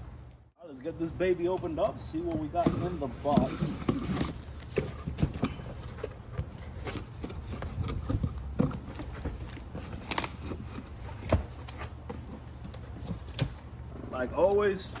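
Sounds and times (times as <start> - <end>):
cardboard box being opened: 1.6 - 13.8.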